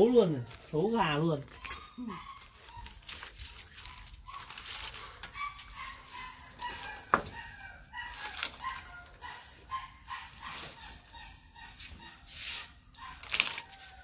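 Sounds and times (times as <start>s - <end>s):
dry leaves crinkling: 0.0s - 14.0s.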